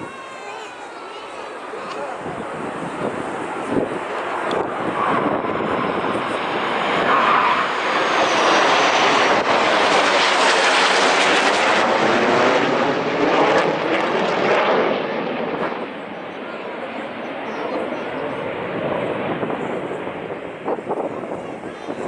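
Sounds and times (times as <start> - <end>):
military aircraft engine rushing: 0.0 - 22.0.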